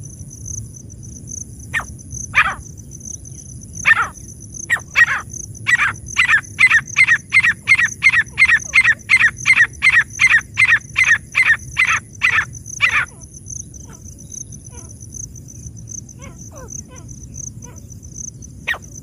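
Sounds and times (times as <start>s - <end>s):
francolin calling: 1.7s - 19.0s.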